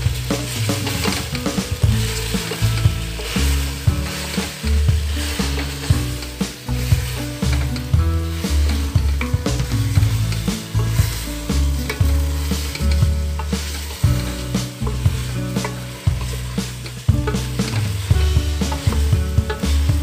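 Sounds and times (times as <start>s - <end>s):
curry sizzling in a pot: 0.0s - 20.0s
spoon scraping a pan: 0.1s - 20.0s.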